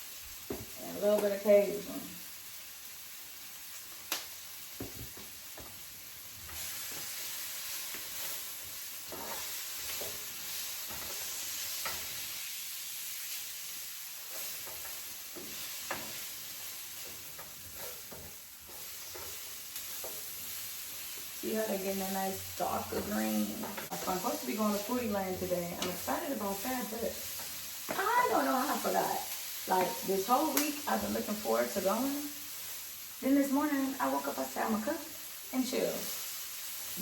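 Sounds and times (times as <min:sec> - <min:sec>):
vegetables sizzling in a pan: 0:00.0 - 0:37.0.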